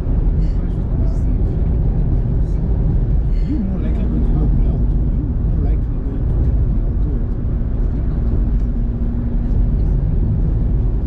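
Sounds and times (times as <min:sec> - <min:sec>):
road and tyre noise: 0:00.0 - 0:11.0.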